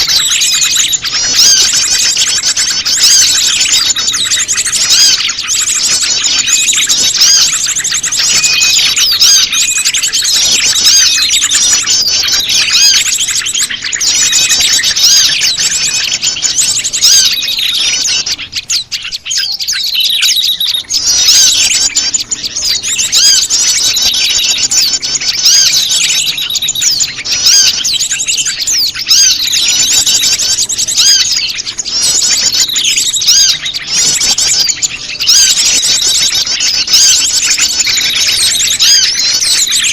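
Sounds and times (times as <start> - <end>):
bird calls: 0.0 - 39.9
small birds chirping and twittering: 0.0 - 39.9.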